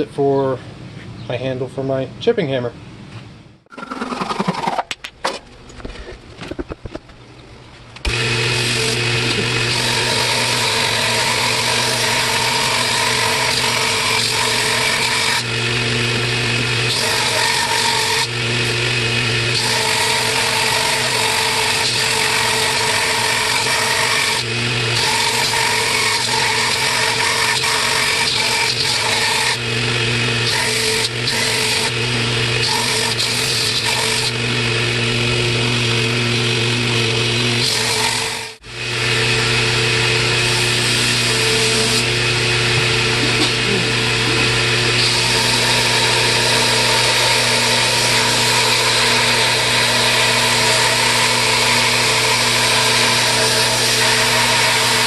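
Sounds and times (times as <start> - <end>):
power tool trimming wood: 8.0 - 55.0.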